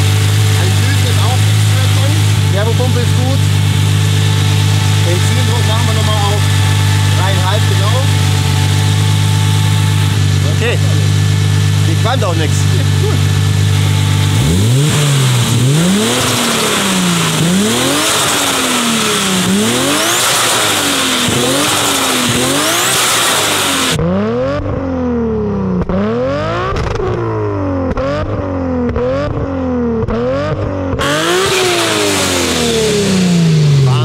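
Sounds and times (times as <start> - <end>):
car engine revving: 0.0 - 34.0
exhaust cracks: 0.0 - 34.0.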